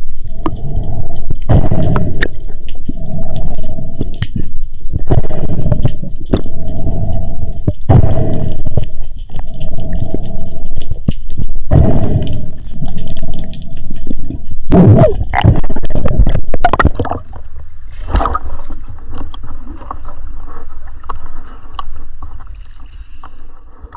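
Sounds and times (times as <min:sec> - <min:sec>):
water gurgling and sloshing: 0:00.0 - 0:23.9.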